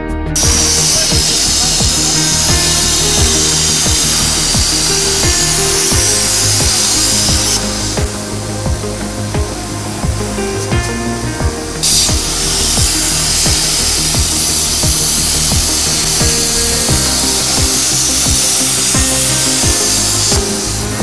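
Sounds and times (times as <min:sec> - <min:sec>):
background music with beat: 0:00.0 - 0:21.0
plasma torch hissing: 0:00.5 - 0:21.0.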